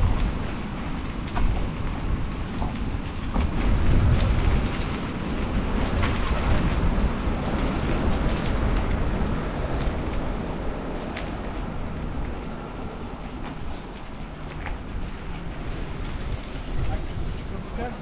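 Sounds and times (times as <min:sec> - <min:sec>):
bicycle rolling rumble and rattle: 0:00.0 - 0:18.0
wind on microphone: 0:00.0 - 0:18.0.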